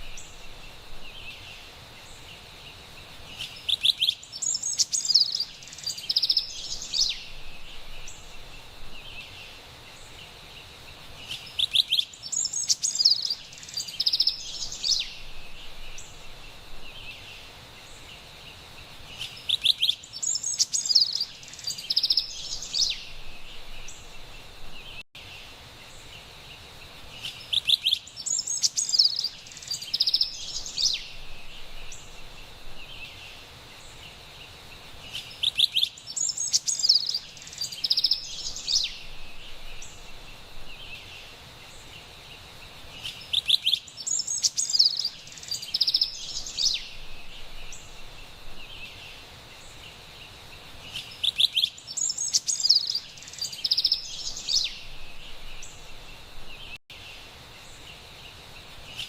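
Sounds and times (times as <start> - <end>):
faint steady high hiss: 0.0 - 59.0
wren singing high chirps: 3.2 - 10.2, 11.2 - 25.0, 27.2 - 34.2, 35.0 - 59.0.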